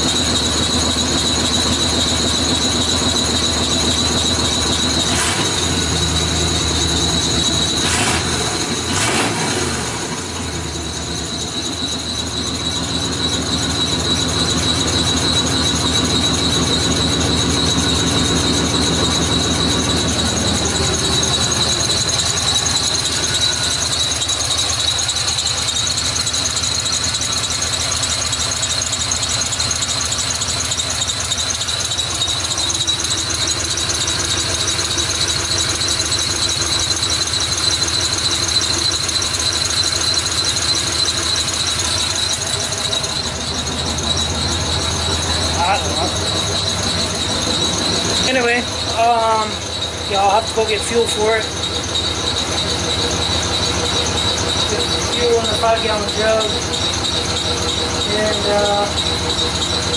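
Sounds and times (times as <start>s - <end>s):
high-pitched squeal: 0.0s - 59.9s
pickup truck engine running: 0.0s - 59.9s.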